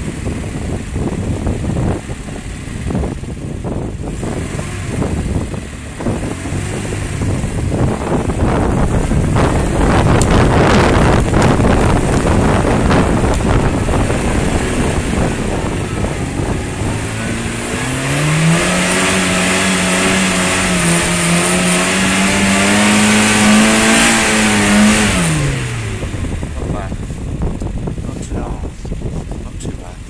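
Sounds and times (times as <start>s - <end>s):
small car engine revving: 0.0s - 28.6s
wind buffeting microphone: 0.0s - 30.0s.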